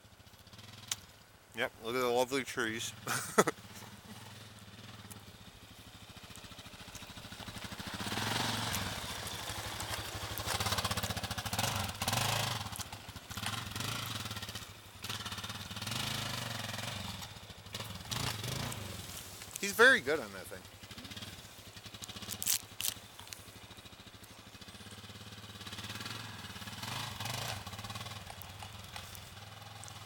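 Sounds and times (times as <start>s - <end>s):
motorcycle engine revving under load: 0.4s - 1.0s, 2.9s - 30.0s.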